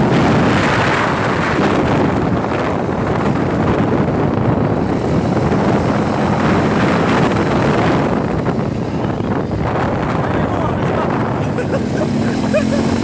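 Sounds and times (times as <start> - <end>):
quad bike engine running: 0.0 - 13.0
wind buffeting microphone: 0.0 - 13.0.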